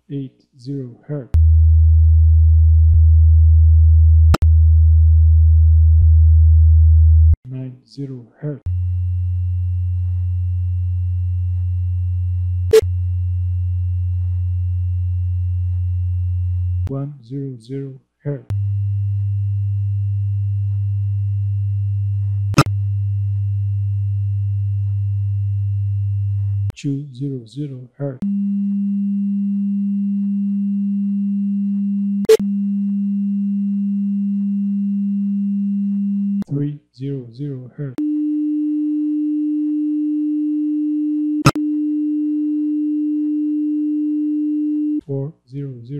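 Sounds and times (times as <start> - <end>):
low sine test tone: 1.4 - 7.4, 8.7 - 16.9, 18.5 - 26.8, 28.2 - 36.5, 38.0 - 45.0.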